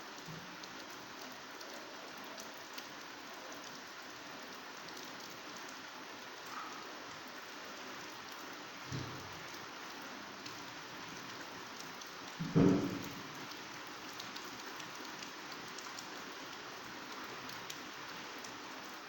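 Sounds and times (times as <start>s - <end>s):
heavy rain on vegetation: 0.0s - 19.0s.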